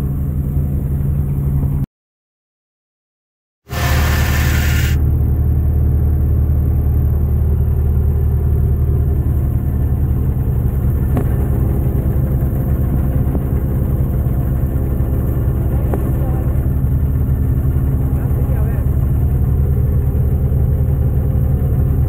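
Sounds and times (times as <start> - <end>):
tractor diesel engine running: 3.7 - 22.0.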